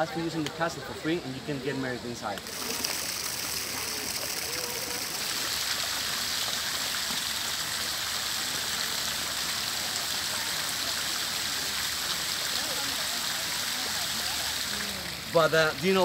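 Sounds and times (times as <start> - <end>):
fountain jets splashing into pool: 0.0 - 16.0.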